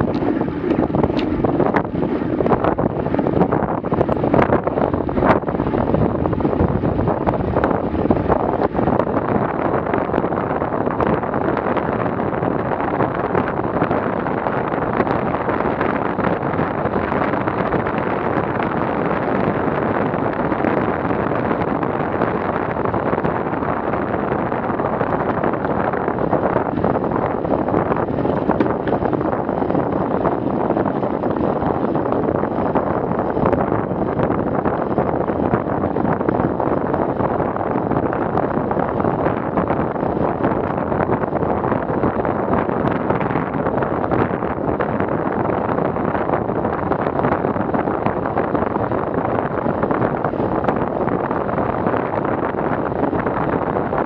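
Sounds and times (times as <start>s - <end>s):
wind noise on microphone: 0.0s - 54.0s.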